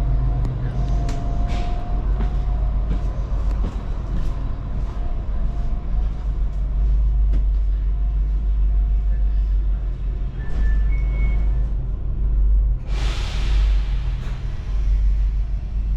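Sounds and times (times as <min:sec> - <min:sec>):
train rumbling: 0:00.0 - 0:15.9.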